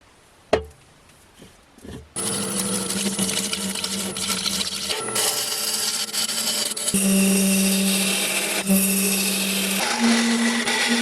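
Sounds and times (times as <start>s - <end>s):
power tool cutting wood: 2.2s - 11.0s.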